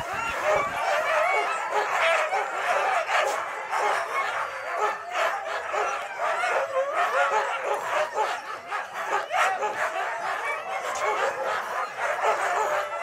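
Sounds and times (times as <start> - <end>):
sled dogs yelping and barking: 0.0 - 13.0.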